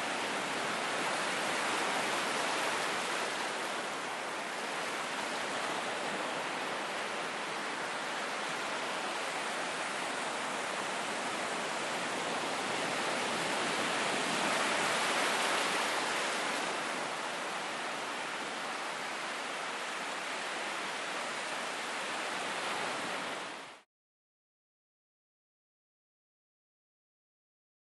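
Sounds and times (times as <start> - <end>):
ocean surf breaking: 0.0 - 23.8.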